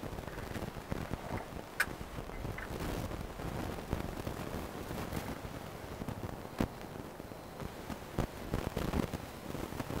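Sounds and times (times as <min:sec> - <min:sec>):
low uneven microphone rumble: 0:00.0 - 0:10.0.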